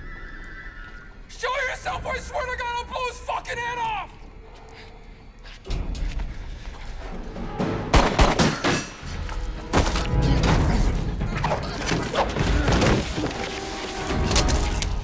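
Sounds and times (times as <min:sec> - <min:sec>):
dramatic score music: 0:01.3 - 0:15.0.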